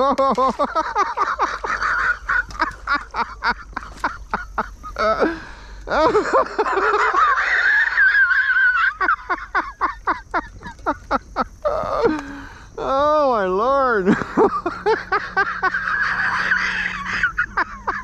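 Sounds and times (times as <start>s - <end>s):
man laughing: 0.0s - 13.0s, 13.9s - 18.0s.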